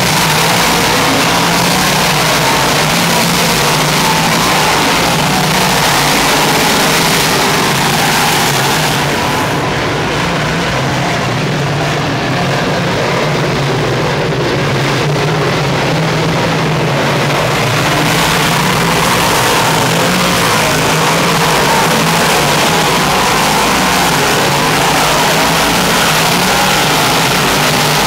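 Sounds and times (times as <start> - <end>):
race car engines roaring: 0.0 - 28.0.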